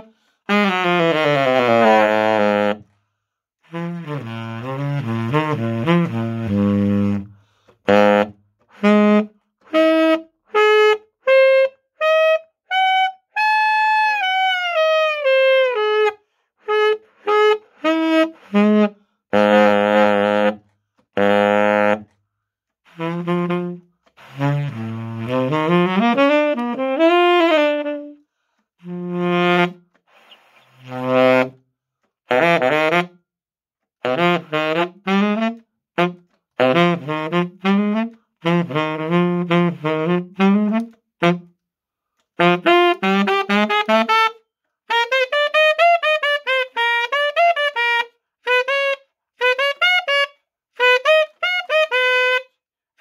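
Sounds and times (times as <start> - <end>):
tenor saxophone playing: 0.0 - 53.0.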